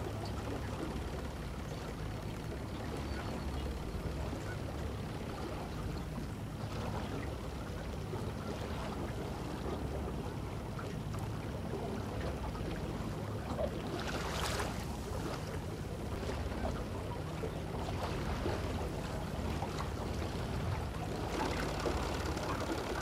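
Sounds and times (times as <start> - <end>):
water splashing along hull: 0.0 - 23.0.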